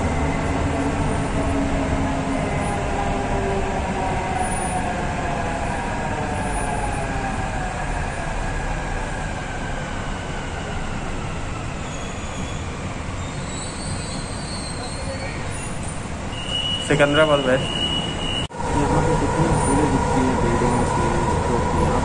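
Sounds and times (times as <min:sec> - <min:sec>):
train rumble inside carriage: 0:00.0 - 0:22.0
train whine: 0:00.0 - 0:22.0.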